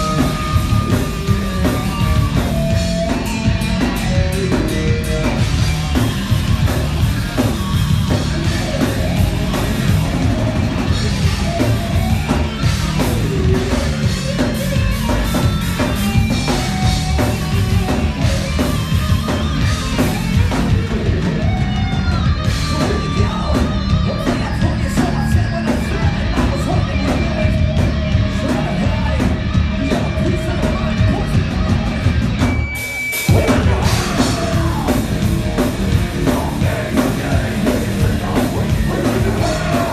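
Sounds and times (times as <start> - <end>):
distorted guitars and bass: 0.0 - 39.9
live heavy rock band: 0.0 - 39.9
pounding drum kit: 0.0 - 39.9.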